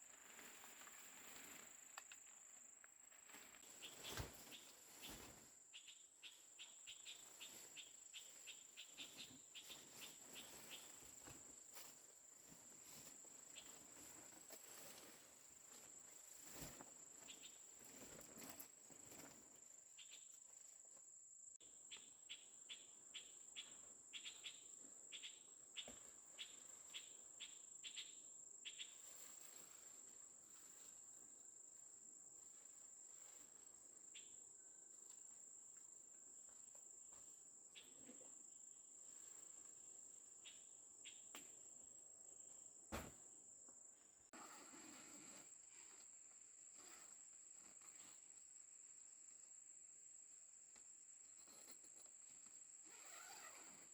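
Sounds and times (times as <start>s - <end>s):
rapid insect chirps: 0.2s - 15.2s, 15.8s - 36.0s, 37.7s - 43.0s, 43.9s - 53.9s.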